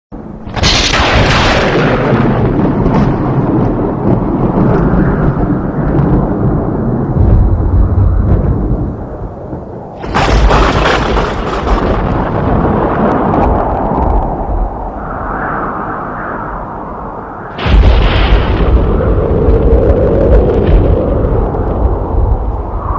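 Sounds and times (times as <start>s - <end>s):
thunder rumbling: 0.2s - 22.9s
thunder crack: 0.4s - 15.0s, 17.4s - 22.9s.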